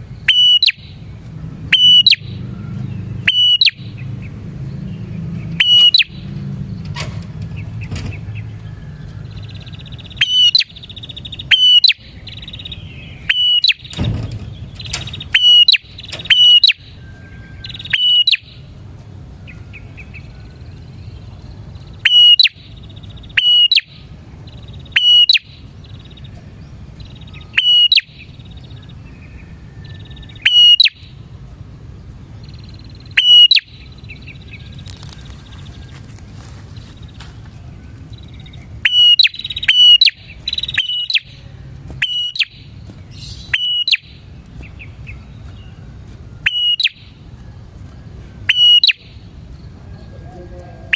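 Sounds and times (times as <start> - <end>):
bird sharp high calls: 0.0 - 18.8, 19.4 - 31.3, 32.3 - 50.9
soft buzzy bird chatter: 0.0 - 50.9.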